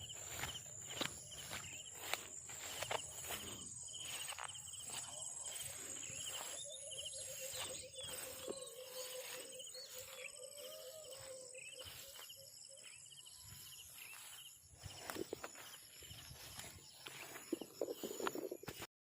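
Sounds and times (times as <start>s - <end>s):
footsteps crunching: 0.0s - 18.9s
insects whining: 0.0s - 18.9s
pulsed insect trill: 0.0s - 18.9s.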